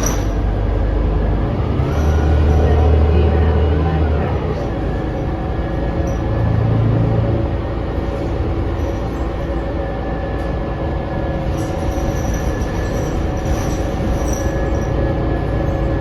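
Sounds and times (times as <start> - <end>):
bus drivetrain rumble: 0.0 - 16.0.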